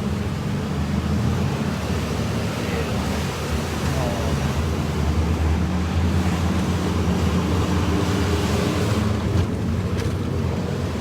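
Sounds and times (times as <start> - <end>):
road noise: 0.0 - 11.0
wind: 0.0 - 11.0.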